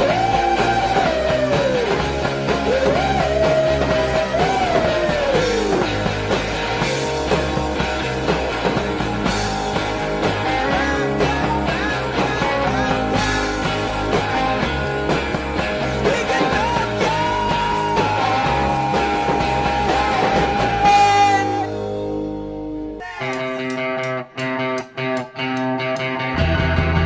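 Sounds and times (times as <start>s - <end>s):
rock music with guitar: 0.0s - 27.0s.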